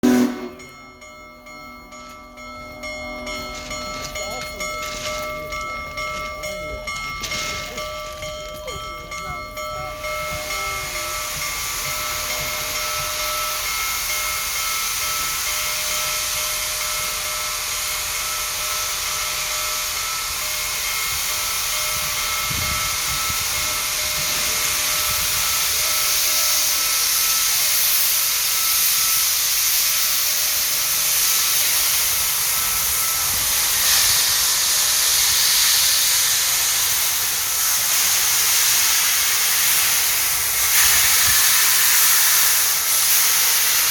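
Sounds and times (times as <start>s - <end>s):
steam locomotive hissing: 0.0s - 43.9s.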